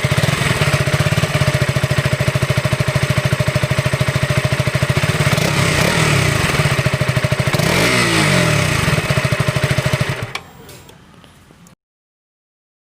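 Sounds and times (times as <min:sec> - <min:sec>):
motorcycle engine idling and revving: 0:00.0 - 0:10.9.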